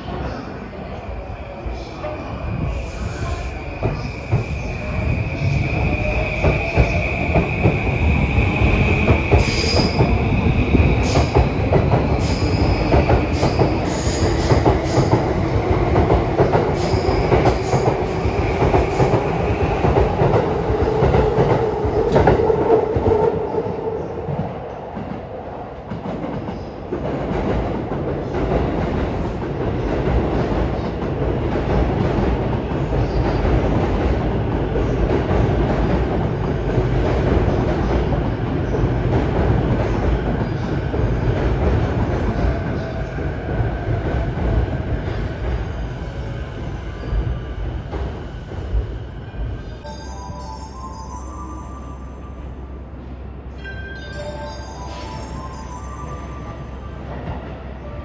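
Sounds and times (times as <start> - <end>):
train rumble: 0.0 - 58.0.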